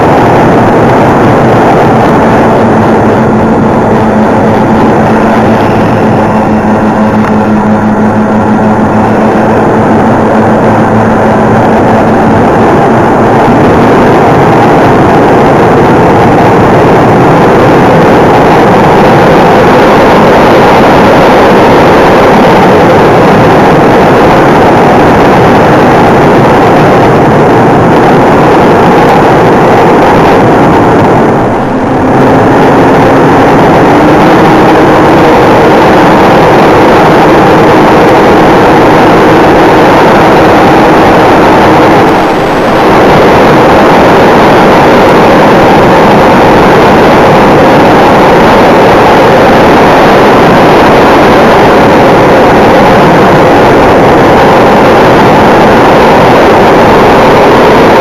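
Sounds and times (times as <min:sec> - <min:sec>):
electric motors and propellers humming: 0:00.0 - 0:58.0
wind rush: 0:00.0 - 0:58.0.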